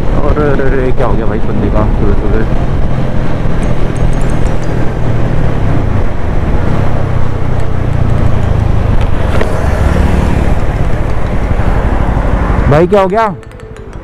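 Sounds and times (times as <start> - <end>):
road noise: 0.0 - 14.0
motorcycle engine running: 1.9 - 13.2.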